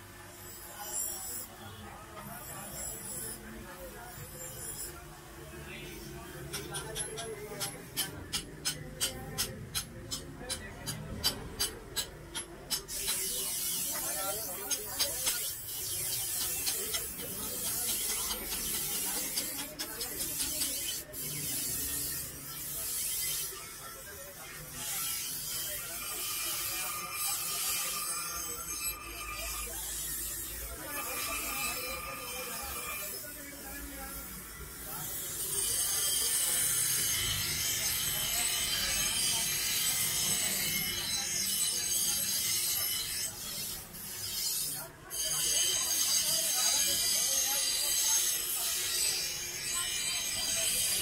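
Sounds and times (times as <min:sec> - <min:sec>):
grinder wheel grinding steel blade: 0:00.3 - 0:01.6, 0:02.2 - 0:51.0.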